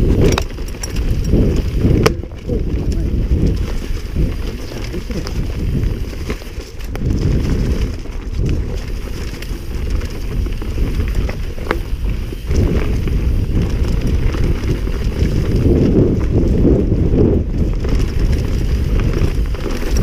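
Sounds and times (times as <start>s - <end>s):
bike knocking and rattling: 0.0s - 20.0s
tyres rumbling over dirt: 0.0s - 20.0s
wind buffeting microphone: 0.0s - 20.0s.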